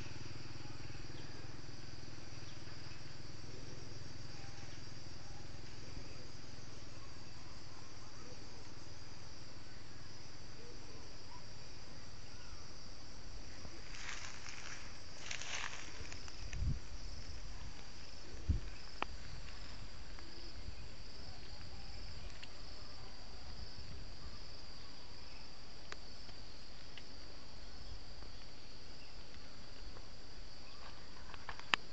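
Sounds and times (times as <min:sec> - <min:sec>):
high-pitched insect chorus: 0:00.0 - 0:31.9.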